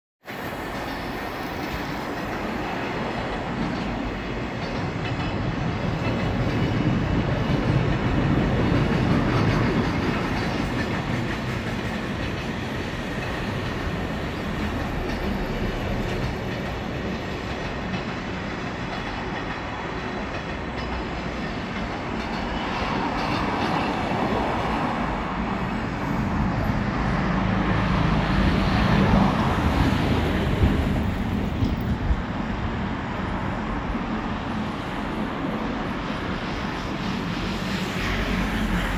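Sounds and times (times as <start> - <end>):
train wheels rumbling on rails: 0.2 - 38.9.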